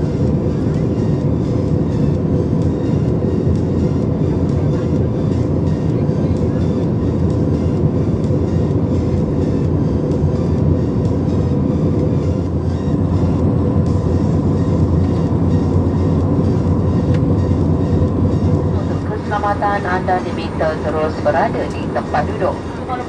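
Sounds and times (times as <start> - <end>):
airplane engines droning: 0.0 - 23.0.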